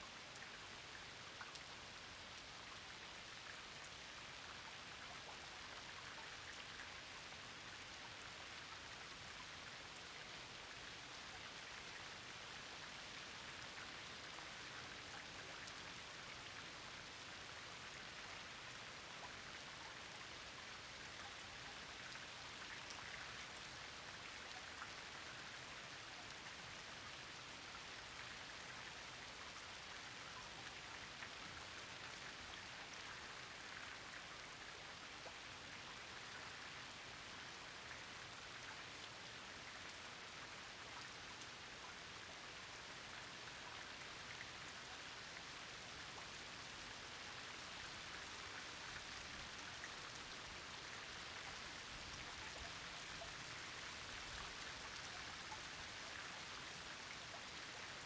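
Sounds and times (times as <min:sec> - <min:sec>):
rain falling on a pond: 0:00.0 - 0:58.0.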